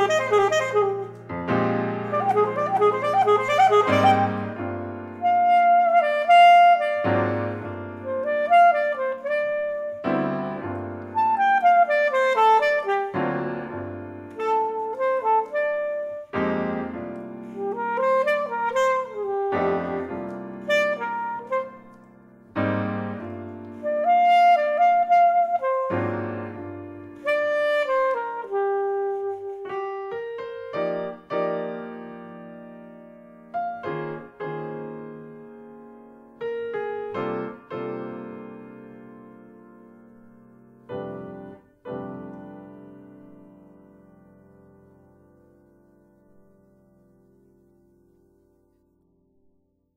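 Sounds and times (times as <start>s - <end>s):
alto saxophone melody: 0.0s - 35.5s, 36.3s - 39.6s, 40.2s - 43.6s
piano chords: 0.0s - 49.5s.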